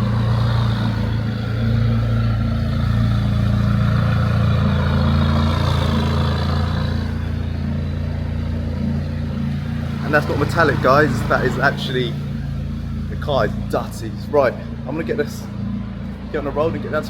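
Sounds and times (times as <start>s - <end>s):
sports car engine running: 0.0s - 17.0s.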